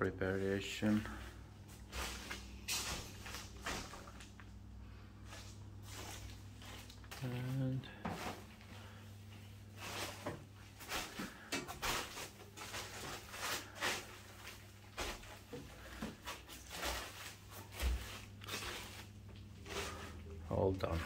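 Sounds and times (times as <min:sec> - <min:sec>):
steady low hum: 0:00.0 - 0:21.0
footsteps on plastic sheets: 0:00.3 - 0:04.6, 0:05.2 - 0:21.0.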